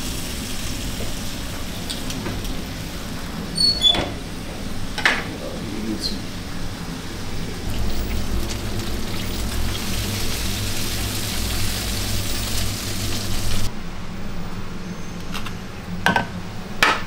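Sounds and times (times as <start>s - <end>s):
food sizzling in deep fryer: 0.0s - 13.7s.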